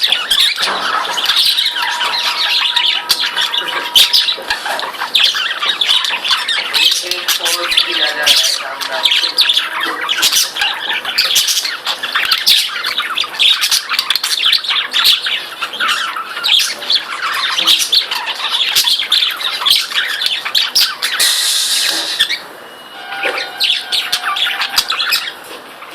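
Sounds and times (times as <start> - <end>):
budgerigars chattering and squawking: 0.0 - 25.9.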